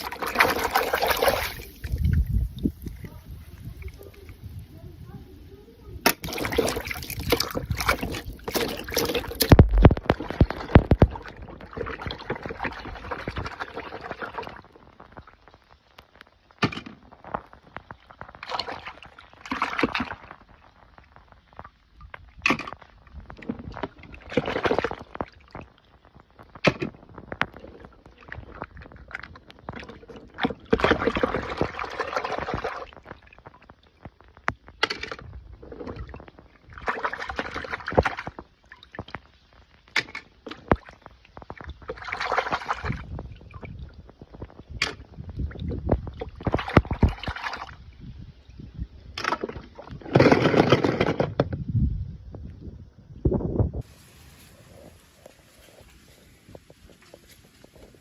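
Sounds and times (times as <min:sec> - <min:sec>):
water sloshing and splashing: 0:00.0 - 0:51.6, 0:53.8 - 0:58.0.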